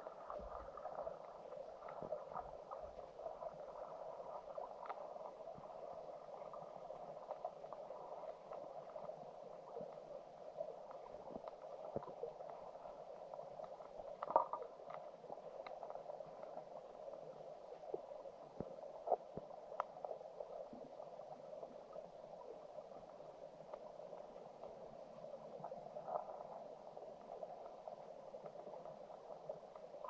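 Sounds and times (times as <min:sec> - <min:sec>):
faint underwater clicks: 0:00.0 - 0:30.0
muffled underwater water rush: 0:00.0 - 0:30.0.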